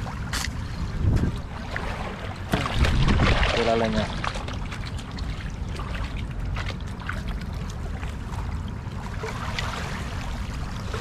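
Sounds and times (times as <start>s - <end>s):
small splashes: 0.0s - 11.0s
steady low rumble: 0.0s - 11.0s
water trickling and lapping: 0.0s - 11.0s.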